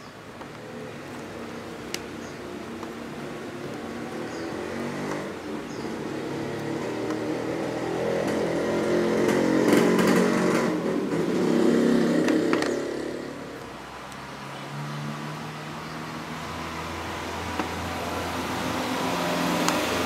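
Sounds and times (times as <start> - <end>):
motor vehicle engine passing: 0.6 - 20.0.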